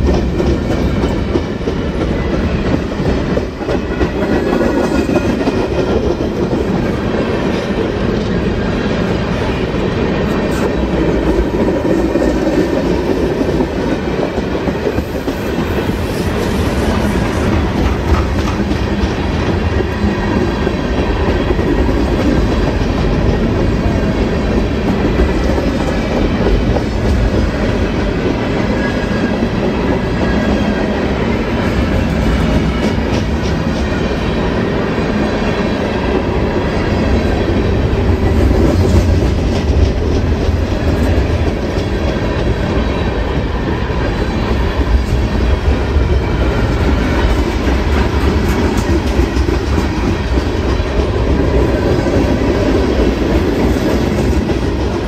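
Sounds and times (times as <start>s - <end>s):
clickety-clack over rail joints: 0.0s - 55.0s
steel wheels rumbling on rail: 0.0s - 55.0s.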